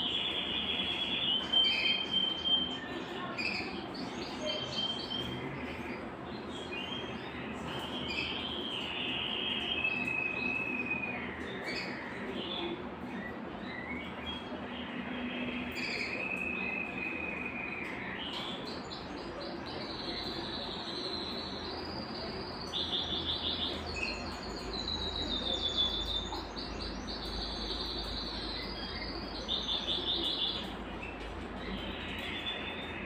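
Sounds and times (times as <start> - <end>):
canary singing with trills: 0.0 - 33.0.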